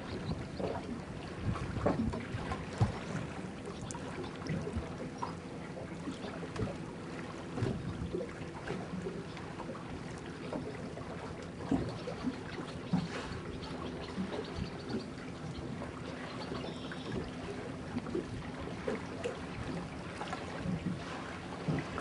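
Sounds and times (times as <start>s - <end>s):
water splashing against a boat: 0.0s - 22.0s.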